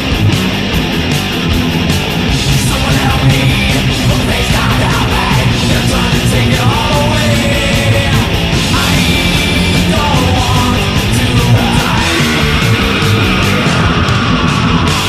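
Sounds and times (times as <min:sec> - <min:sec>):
bass guitar: 0:00.0 - 0:15.0
distorted electric guitars: 0:00.0 - 0:15.0
drums playing loudly: 0:00.0 - 0:15.0.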